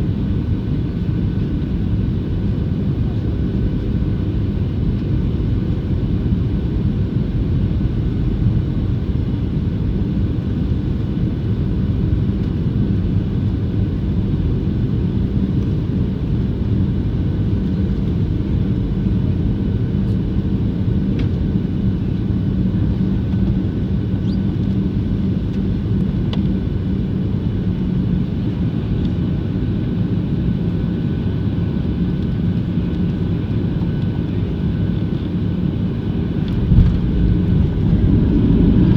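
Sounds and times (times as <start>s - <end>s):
constant cabin hum: 0.0s - 38.9s
jet engine and airflow rumble: 0.0s - 38.9s.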